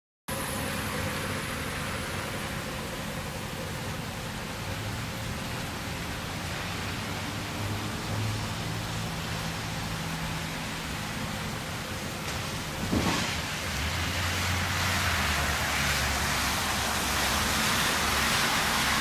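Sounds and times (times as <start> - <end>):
steady rain falling: 0.3 - 19.0.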